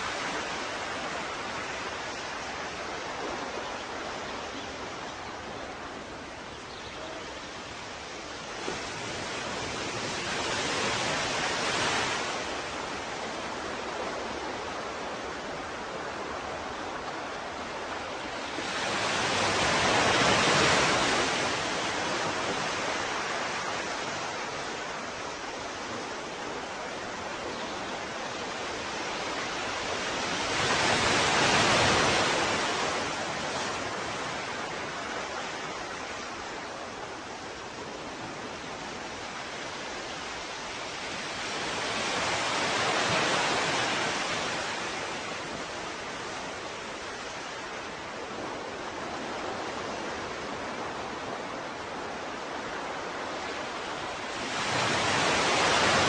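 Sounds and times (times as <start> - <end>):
hiss of surf: 0.0 - 56.0
ocean waves washing in: 0.0 - 56.0.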